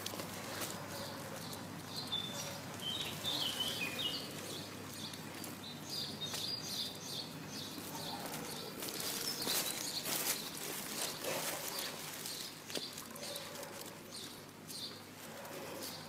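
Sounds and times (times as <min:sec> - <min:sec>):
steady background hiss: 0:00.0 - 0:13.1
small birds chirping: 0:00.2 - 0:16.0.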